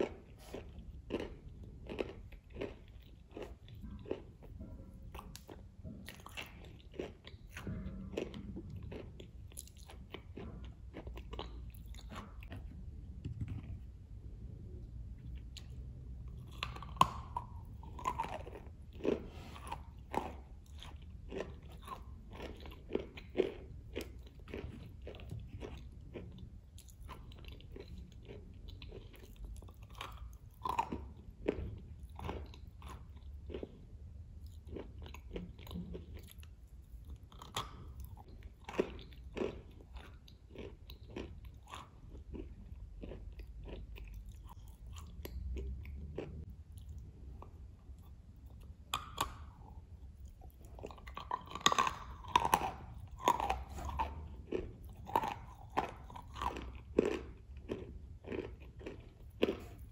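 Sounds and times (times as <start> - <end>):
cookie crunching while chewing: 0.0 - 13.9, 15.2 - 59.9.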